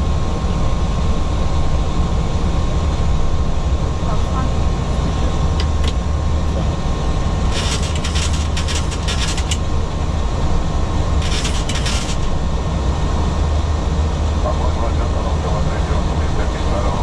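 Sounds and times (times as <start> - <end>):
drone of airflow and engines: 0.0 - 17.0.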